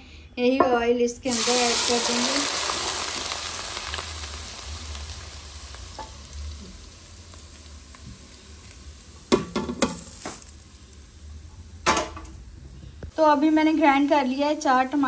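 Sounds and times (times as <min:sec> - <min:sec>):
hot oil sizzling on onions: 0:01.3 - 0:15.0.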